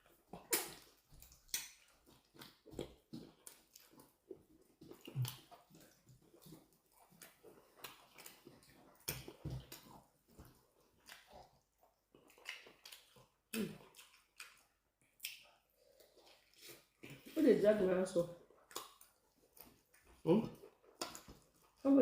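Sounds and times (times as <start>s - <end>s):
chewing and eating: 0.0s - 22.0s.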